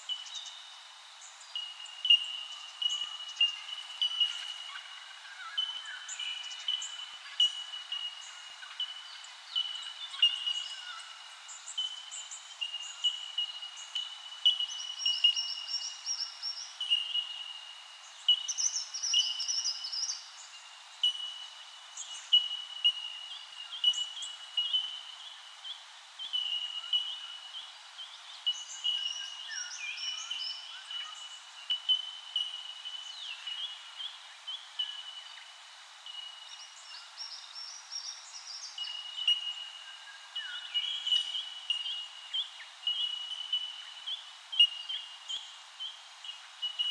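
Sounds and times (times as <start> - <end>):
chorus of birds chirping: 0.0 - 46.9.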